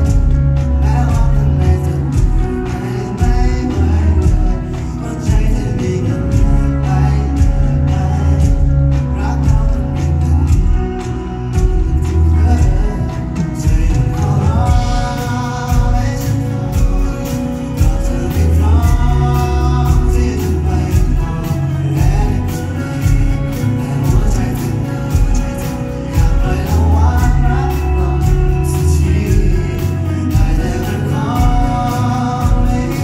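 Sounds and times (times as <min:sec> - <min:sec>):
bass guitar: 0:00.0 - 0:33.0
drum kit beat: 0:00.0 - 0:33.0
electric guitar: 0:00.0 - 0:33.0
person singing: 0:00.0 - 0:33.0.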